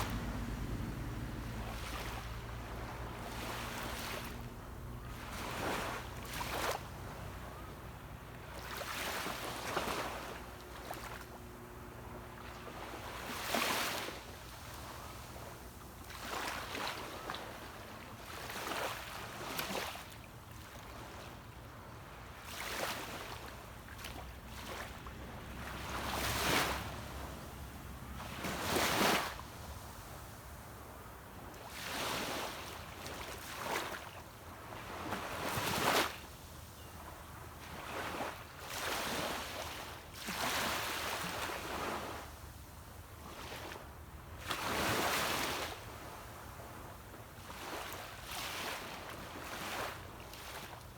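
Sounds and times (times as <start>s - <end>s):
small sea waves breaking: 0.0s - 11.4s, 12.1s - 36.4s, 37.1s - 42.4s, 43.2s - 50.9s.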